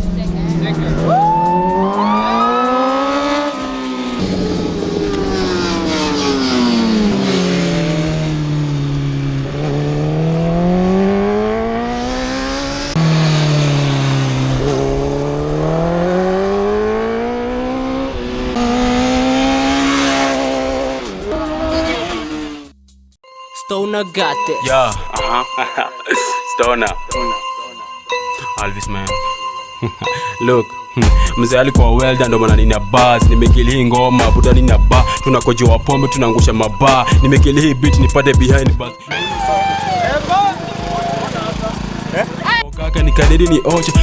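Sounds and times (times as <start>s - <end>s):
superbike engines revving: 0.0s - 22.7s, 31.0s - 44.0s.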